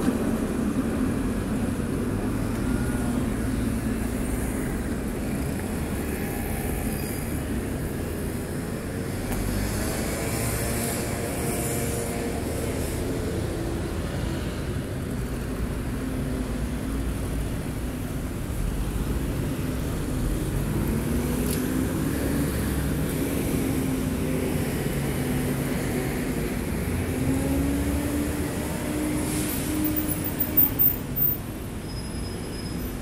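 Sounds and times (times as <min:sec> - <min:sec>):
traffic rumble: 0:00.0 - 0:33.0.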